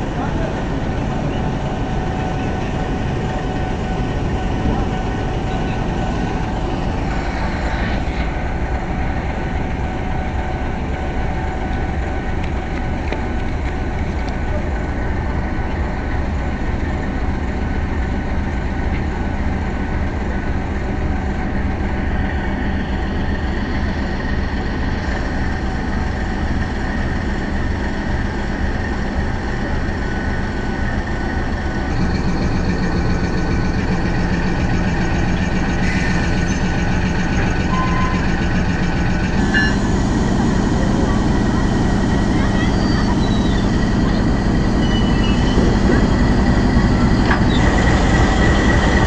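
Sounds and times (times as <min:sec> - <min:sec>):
locomotive diesel engine idling: 0:00.0 - 0:49.0.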